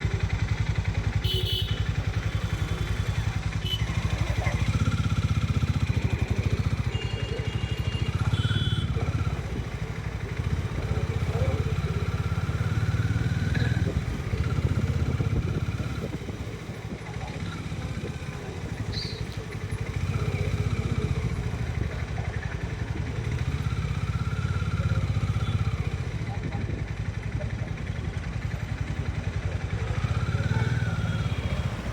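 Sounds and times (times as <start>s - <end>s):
motorcycle engine running: 0.0s - 31.9s
road and traffic noise: 0.0s - 31.9s.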